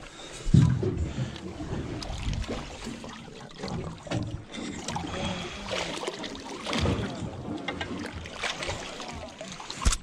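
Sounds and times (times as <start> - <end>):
water sloshing against metal hull: 0.0 - 10.0.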